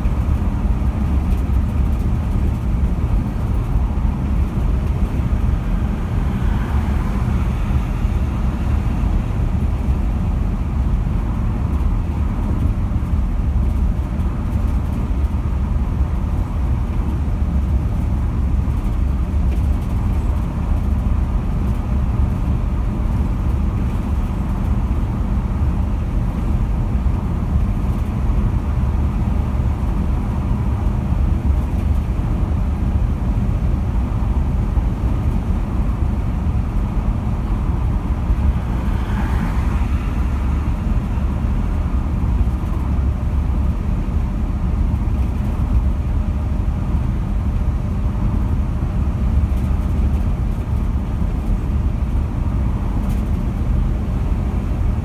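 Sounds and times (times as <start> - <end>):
car road noise from inside: 0.0 - 55.0.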